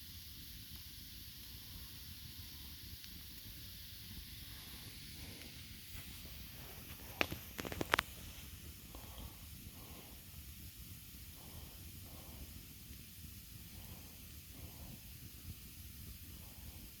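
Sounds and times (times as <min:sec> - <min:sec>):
campfire hissing: 0:00.0 - 0:17.0
wood crackling and popping: 0:00.0 - 0:17.0.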